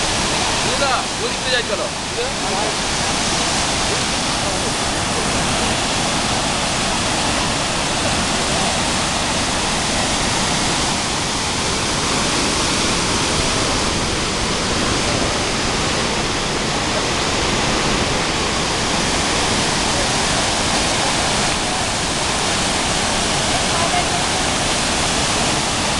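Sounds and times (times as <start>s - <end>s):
waterfall rushing: 0.0s - 25.9s.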